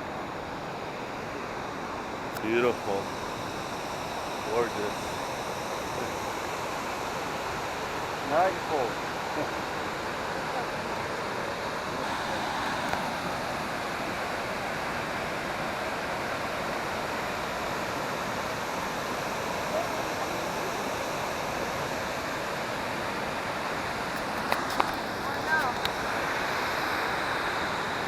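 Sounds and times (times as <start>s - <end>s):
rushing waterfall: 0.0s - 28.0s.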